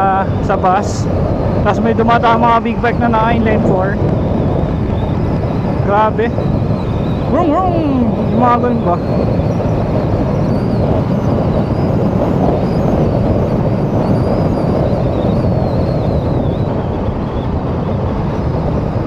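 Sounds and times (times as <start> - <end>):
motorcycle engine cruising: 0.0 - 19.0
road noise: 0.0 - 19.0
wind over microphone: 0.0 - 19.0.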